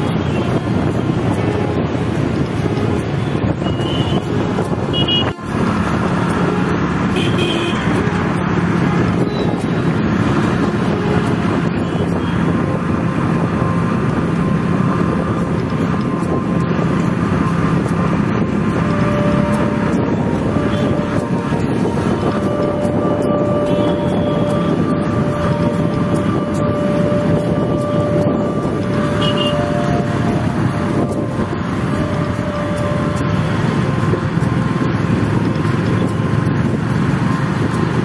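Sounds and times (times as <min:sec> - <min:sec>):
motorcycle engine: 0:00.0 - 0:38.0
tyre road noise: 0:00.0 - 0:38.0.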